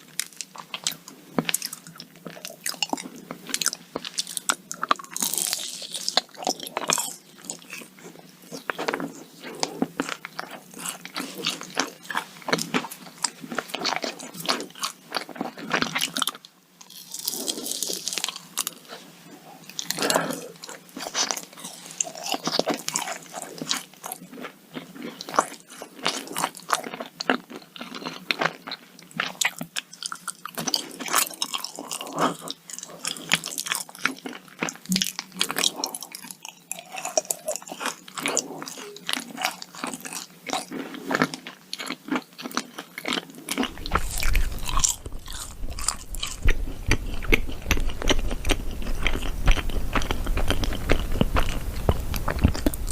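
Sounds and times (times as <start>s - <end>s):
crisp cookie crunching: 0.0s - 52.9s.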